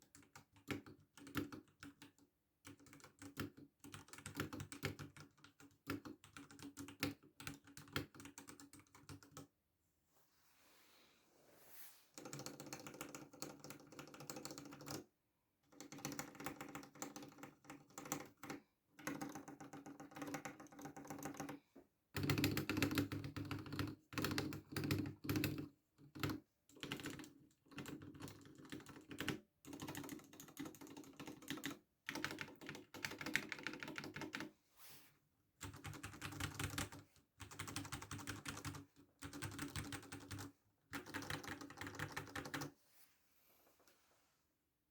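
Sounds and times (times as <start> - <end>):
mechanical keyboard keys pressed rapidly: 0.0 - 9.4, 12.2 - 15.0, 15.7 - 21.6, 22.2 - 34.5, 35.6 - 42.7.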